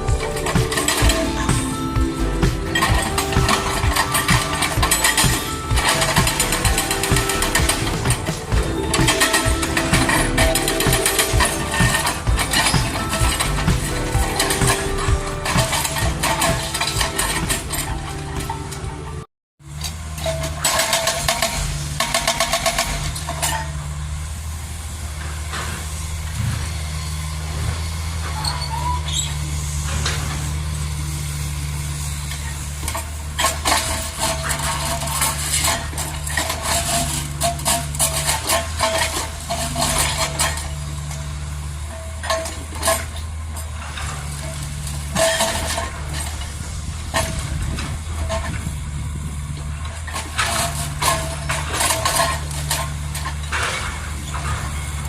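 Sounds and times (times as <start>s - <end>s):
metallic clanks and knocks: 0.0s - 23.9s, 32.3s - 55.0s
diesel engine running: 0.0s - 55.0s.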